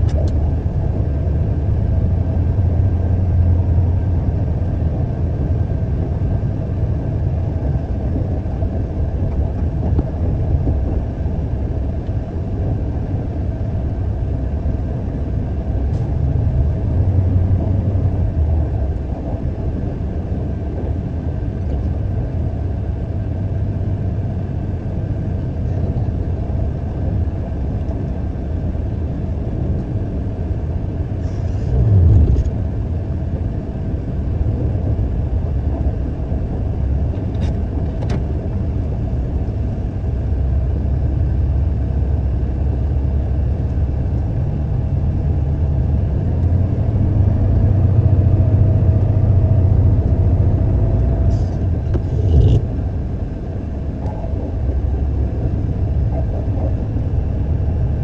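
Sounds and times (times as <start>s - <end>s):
diesel truck engine rumble: 0.0s - 58.0s.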